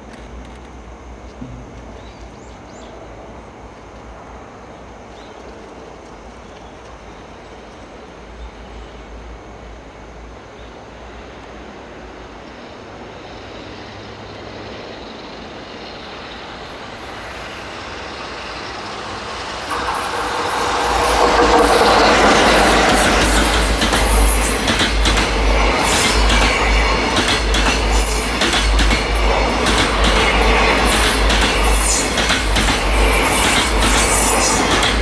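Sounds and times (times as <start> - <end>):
freight train rumbling: 0.0 - 35.0.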